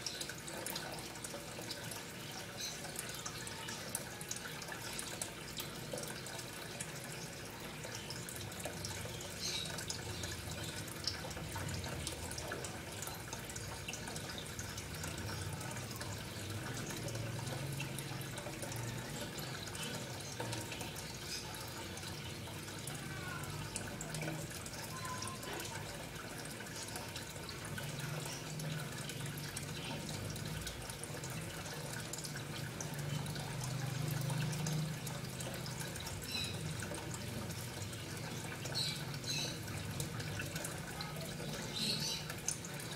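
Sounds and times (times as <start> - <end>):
small water drips: 0.0 - 42.9
water running and trickling: 0.0 - 42.9.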